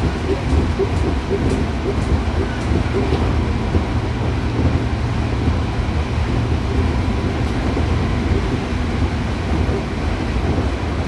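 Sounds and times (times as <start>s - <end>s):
train rumbling in motion: 0.0s - 11.0s.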